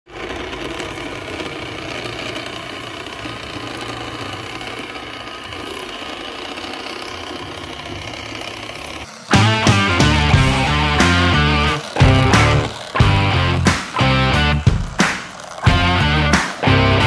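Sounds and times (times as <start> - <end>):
toy truck motor whirring: 0.1 - 17.0.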